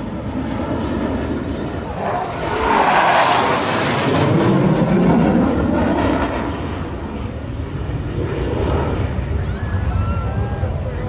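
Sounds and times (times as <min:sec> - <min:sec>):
jets passing by: 0:00.0 - 0:11.0.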